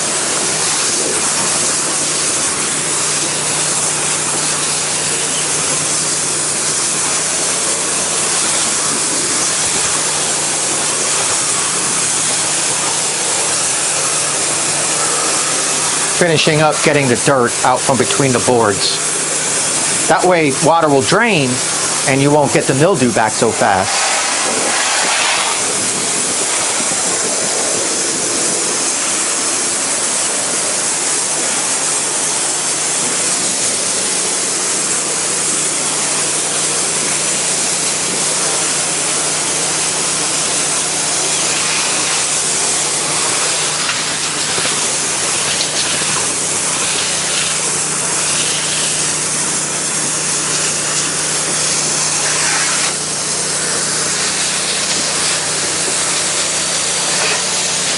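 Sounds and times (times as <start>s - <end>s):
pressure washer motor hum: 0.0s - 57.9s
water spray hissing on wood: 0.0s - 57.9s.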